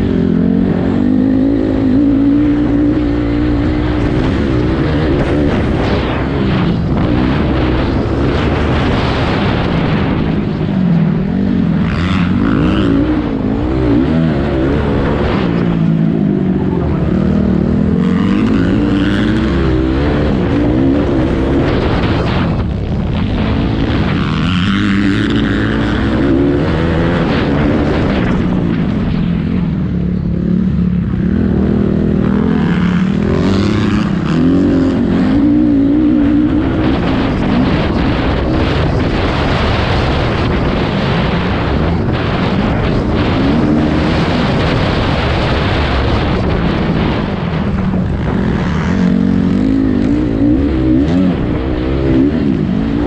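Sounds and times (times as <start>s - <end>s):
racing engine revving: 0.0s - 53.0s.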